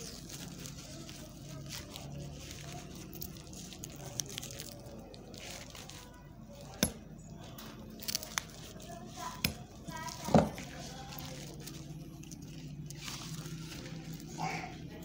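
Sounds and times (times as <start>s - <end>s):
low steady hum: 0.0s - 15.0s
plastic wrap handling noise: 0.0s - 15.0s.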